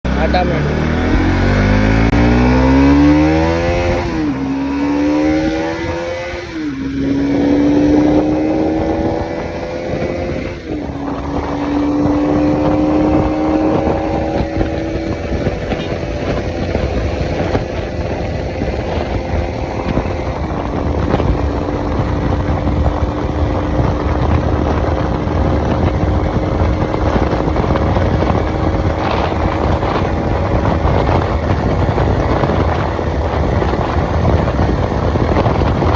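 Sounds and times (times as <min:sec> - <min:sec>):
motorcycle engine accelerating: 0:00.0 - 0:35.9
wind rushing: 0:00.1 - 0:35.9.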